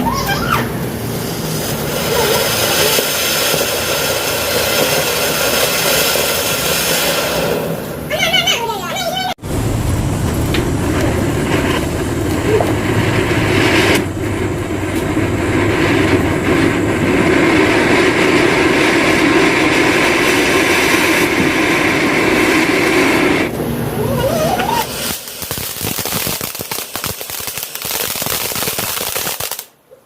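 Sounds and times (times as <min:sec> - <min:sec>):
firework hissing: 0:00.0 - 0:29.8.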